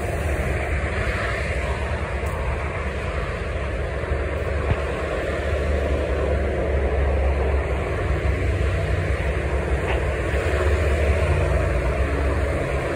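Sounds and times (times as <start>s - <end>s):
low outdoor rumble: 0.0s - 12.9s.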